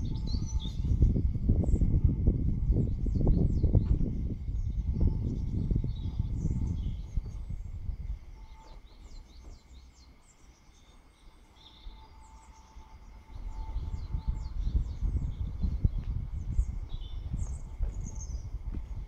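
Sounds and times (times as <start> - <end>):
low gusting rumble: 0.0 - 19.0
small birds chirping: 0.0 - 19.0.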